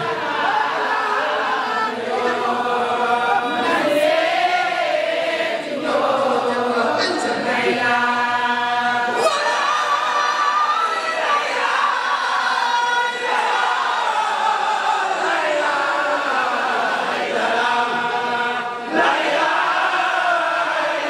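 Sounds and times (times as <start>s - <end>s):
women chanting in unison: 0.0s - 21.0s.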